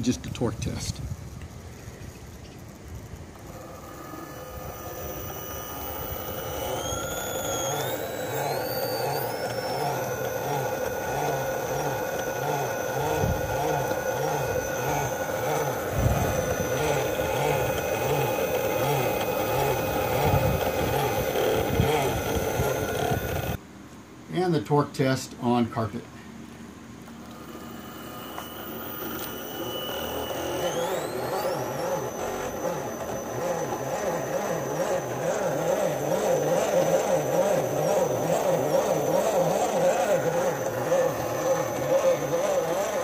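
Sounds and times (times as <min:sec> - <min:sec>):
electric motor whining: 0:00.0 - 0:23.6, 0:27.1 - 0:43.0.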